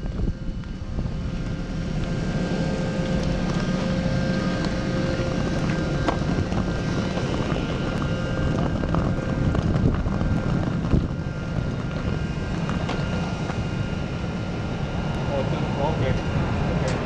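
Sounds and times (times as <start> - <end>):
low engine rumble: 0.0 - 17.0
wind on microphone: 0.0 - 17.0.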